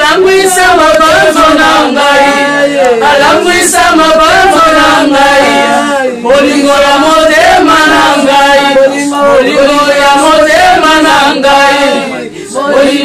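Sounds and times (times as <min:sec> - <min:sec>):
women singing a lament: 0:00.0 - 0:13.0.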